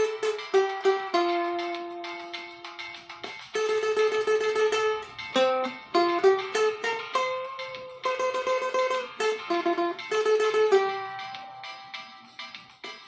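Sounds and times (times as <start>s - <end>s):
small guitar playing hymn melody: 0.0s - 12.6s.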